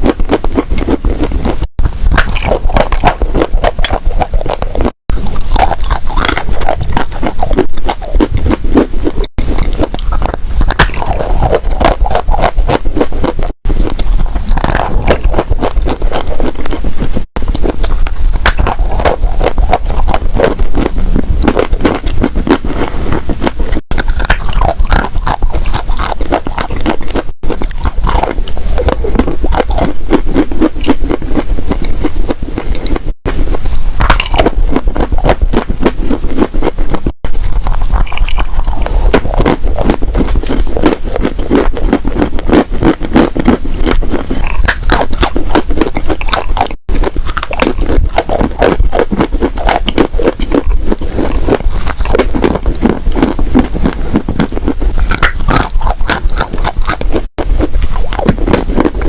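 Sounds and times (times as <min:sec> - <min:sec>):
crunchy clay being chewed: 0:00.0 - 0:59.0.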